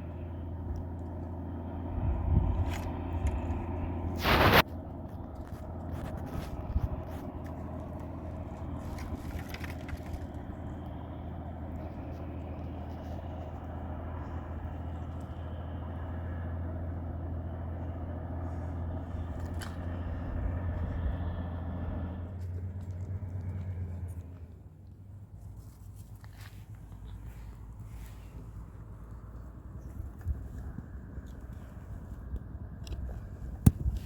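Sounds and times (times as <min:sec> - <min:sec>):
engine droning: 0:00.0 - 0:34.0.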